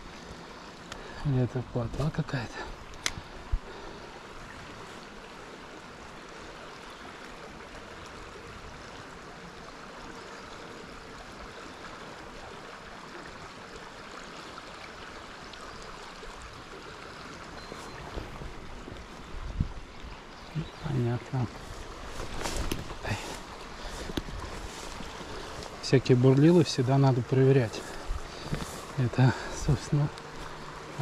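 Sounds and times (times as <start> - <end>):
river water running: 0.0 - 31.0.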